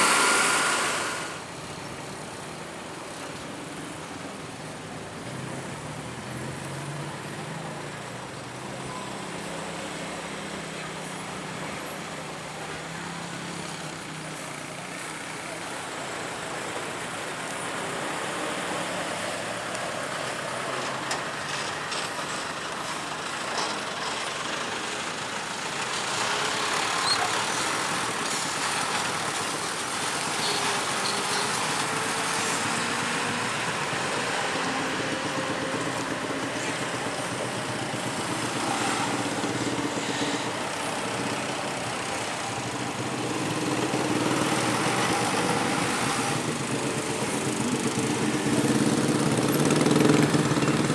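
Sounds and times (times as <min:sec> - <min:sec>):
heavy vehicles passing: 0:00.0 - 0:50.9.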